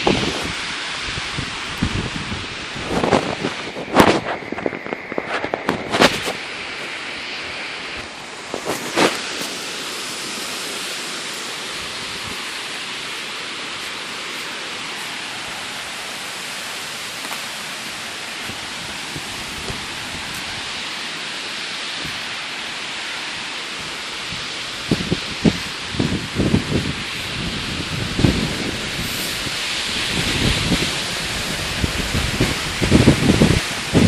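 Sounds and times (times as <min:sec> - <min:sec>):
strong wind through trees: 0:00.0 - 0:34.0.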